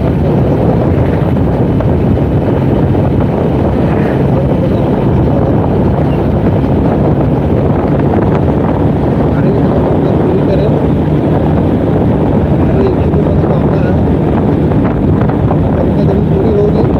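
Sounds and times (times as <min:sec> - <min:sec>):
motorcycle engine: 0:00.0 - 0:16.9
road noise: 0:00.0 - 0:16.9
wind rushing over microphone: 0:00.0 - 0:16.9.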